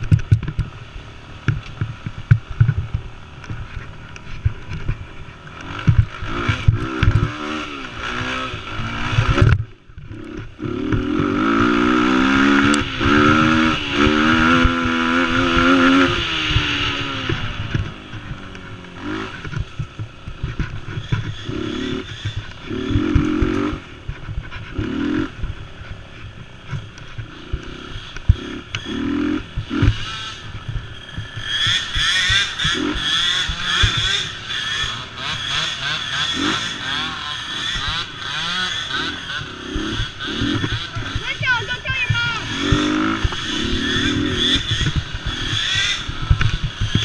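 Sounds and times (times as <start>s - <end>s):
knocks and rattles over rough ground: 0.0s - 47.0s
small engine revving: 0.0s - 47.0s.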